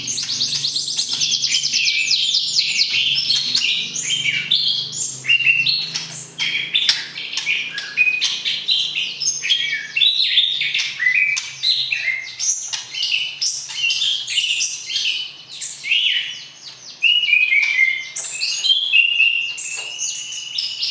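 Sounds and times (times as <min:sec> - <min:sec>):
bird singing whistles and chirps: 0:00.0 - 0:20.9.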